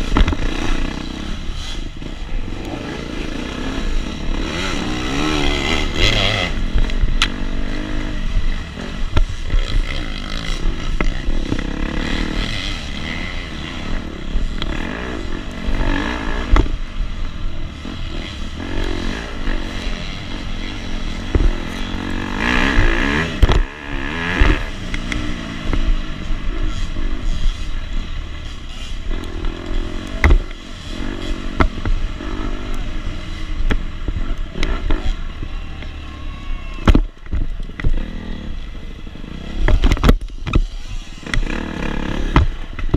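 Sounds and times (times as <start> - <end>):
dirt bike engine revving: 0.0 - 36.4, 37.0 - 42.9.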